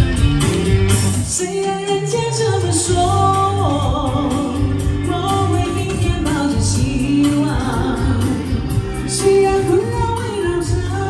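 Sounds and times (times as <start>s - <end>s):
amplified music: 0.0s - 11.0s
woman singing into a microphone: 1.3s - 11.0s.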